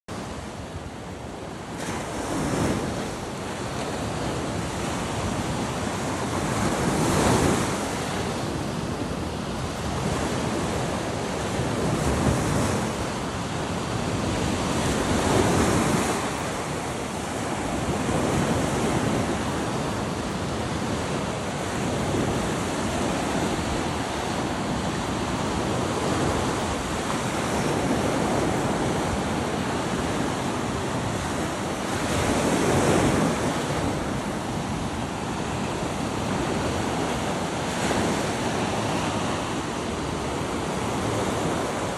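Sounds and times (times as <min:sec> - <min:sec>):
sea waves breaking on shore: 0:00.1 - 0:41.9
wind buffeting microphone: 0:00.1 - 0:41.9.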